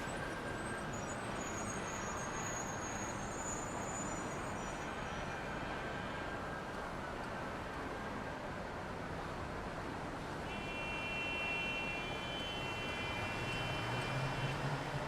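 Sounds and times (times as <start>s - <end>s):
road traffic hiss and rumble: 0.0s - 15.0s.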